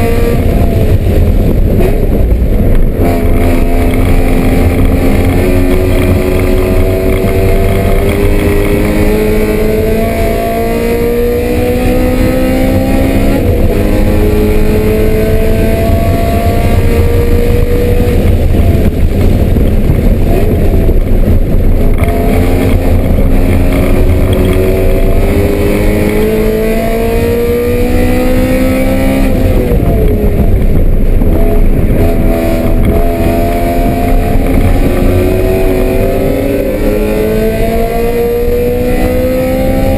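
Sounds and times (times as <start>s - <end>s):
race car engine accelerating: 0.0s - 39.9s
wind and road noise: 0.0s - 39.9s.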